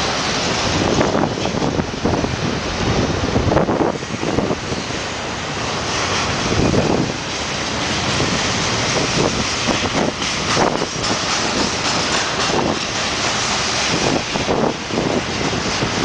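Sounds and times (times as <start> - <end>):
freight train wheels on rails: 0.0 - 16.0
wind buffeting microphone: 0.0 - 16.0.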